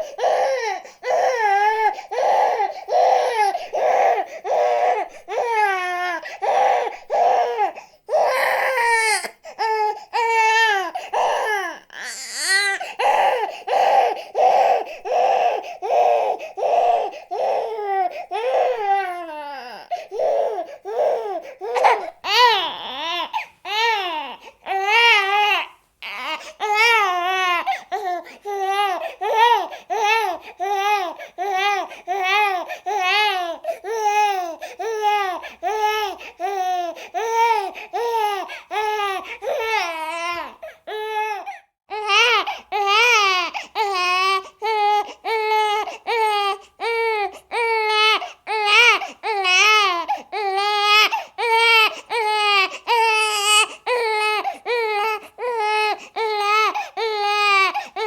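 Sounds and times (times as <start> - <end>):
infant crying: 0.0 - 58.0.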